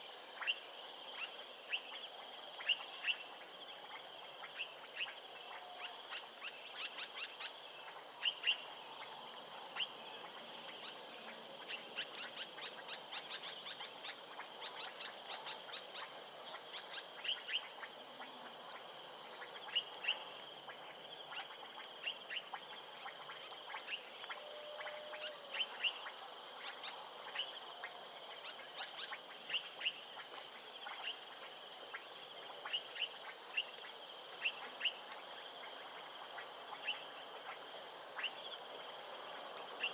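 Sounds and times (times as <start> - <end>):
insects trilling: 0.0 - 39.9
sharp insect chirps: 0.4 - 39.9.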